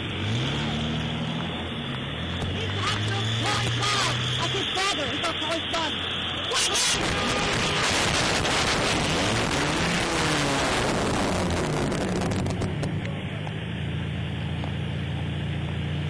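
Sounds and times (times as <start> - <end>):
vehicle engine rushing: 0.0 - 16.0.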